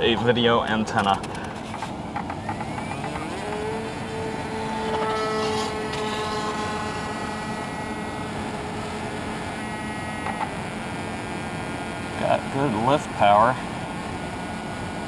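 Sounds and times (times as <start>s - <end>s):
electric propeller motor whine: 1.5s - 15.0s.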